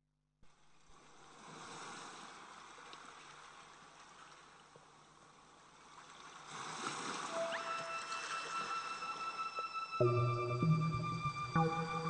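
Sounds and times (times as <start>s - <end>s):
sea water rushing: 0.9s - 4.4s, 5.8s - 12.0s.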